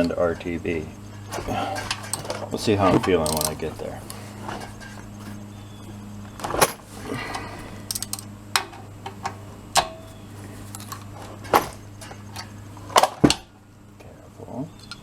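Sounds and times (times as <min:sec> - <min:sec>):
metal tools clinking: 0:00.0 - 0:13.4
low hum: 0:00.0 - 0:15.0.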